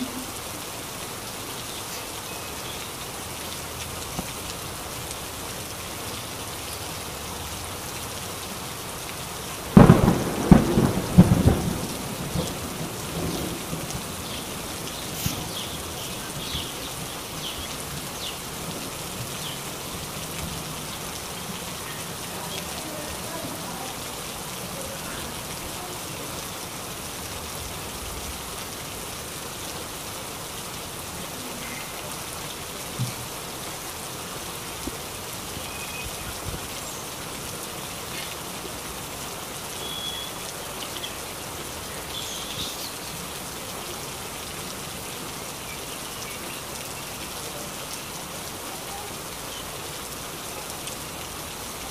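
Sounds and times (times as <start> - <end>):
heavy rain on trees: 0.0 - 51.9
sharp water drips: 0.0 - 51.9.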